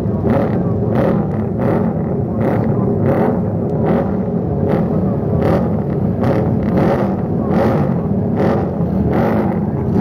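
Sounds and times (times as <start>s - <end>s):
motorcycle engines revving: 0.0s - 10.0s.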